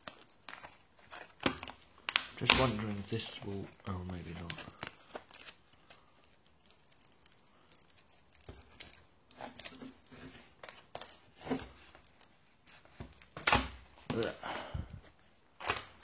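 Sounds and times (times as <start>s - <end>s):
packaging crinkling and tearing: 0.0s - 14.4s.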